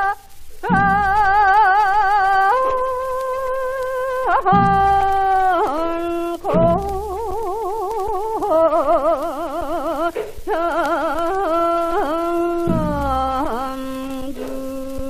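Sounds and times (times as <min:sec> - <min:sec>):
person singing with slow vibrato: 0:00.0 - 0:15.0.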